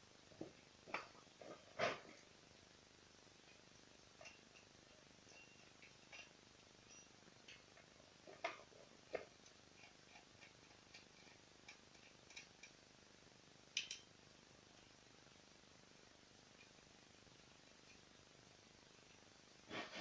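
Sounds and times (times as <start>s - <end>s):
faint high ticks and chirps: 2.2s - 19.7s.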